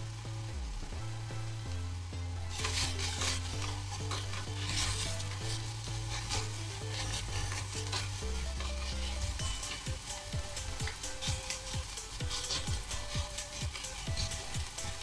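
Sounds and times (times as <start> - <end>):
meat and onions sizzling in oil: 0.0 - 15.0
soft background music: 0.0 - 15.0
spatula stirring strokes: 0.0 - 15.0.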